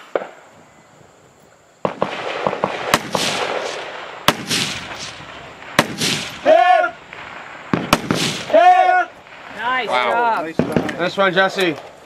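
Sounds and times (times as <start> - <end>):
gunshots with rolling echo: 1.8 - 11.6.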